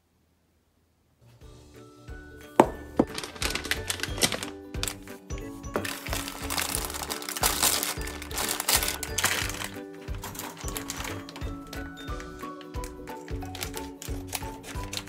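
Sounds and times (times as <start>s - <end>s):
cheerful background music: 1.3s - 15.0s
plastic packaging crinkling: 2.6s - 15.0s.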